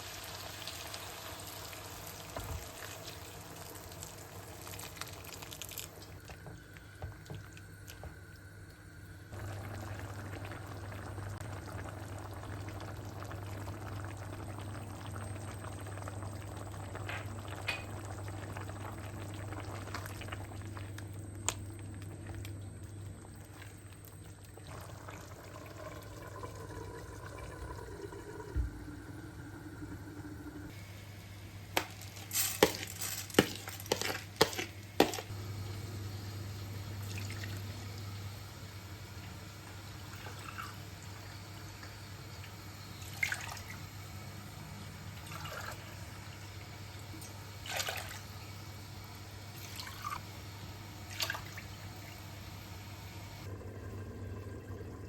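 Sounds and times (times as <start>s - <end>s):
liquid bubbling in a pot: 0.0s - 30.8s, 31.6s - 55.0s
steady low hum: 5.9s - 55.0s.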